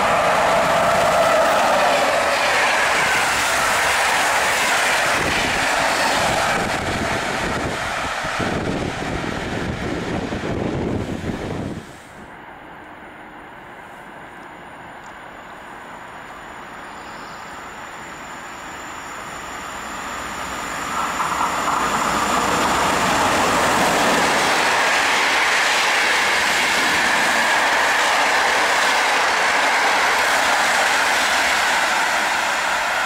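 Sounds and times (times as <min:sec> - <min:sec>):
train wheels rumbling on rails: 0:00.0 - 0:12.3, 0:14.4 - 0:33.0.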